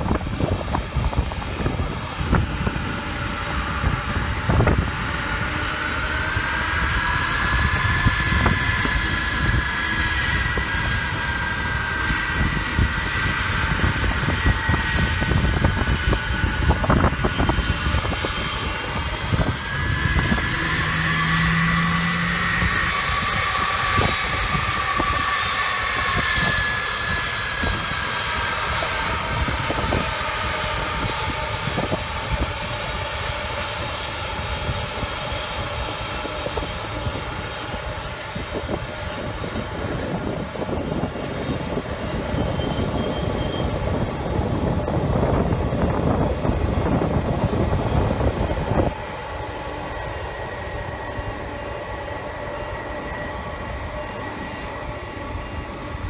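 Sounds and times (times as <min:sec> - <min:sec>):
jet engine rumble with turbine whine: 0:00.0 - 0:56.0.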